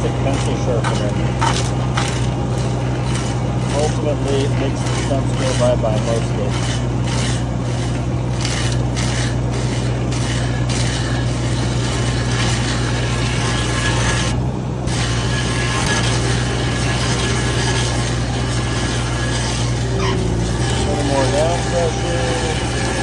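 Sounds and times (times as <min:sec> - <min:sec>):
loader engine running under load: 0:00.0 - 0:23.0
stump grinder shredding wood: 0:00.0 - 0:23.0.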